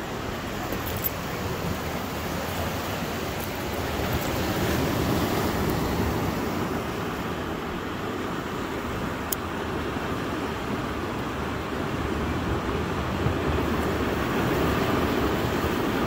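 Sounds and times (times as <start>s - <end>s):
ocean surf rushing: 0.0s - 16.0s
wind: 0.0s - 16.0s.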